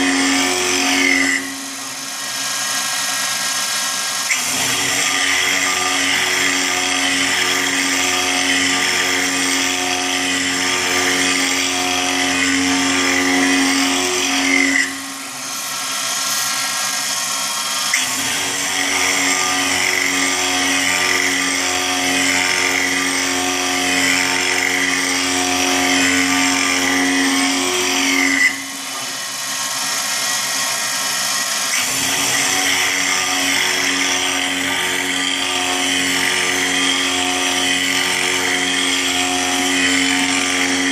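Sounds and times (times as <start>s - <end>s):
end mill cutting metal: 0.0s - 40.9s.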